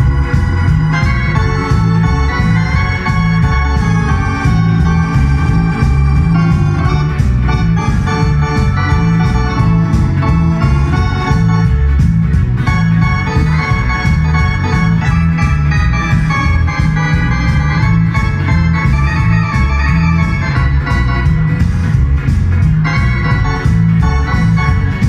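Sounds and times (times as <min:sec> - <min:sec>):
keyboard bass and drum accompaniment: 0:00.0 - 0:25.0
keyboard organ melody with chords: 0:00.0 - 0:25.0.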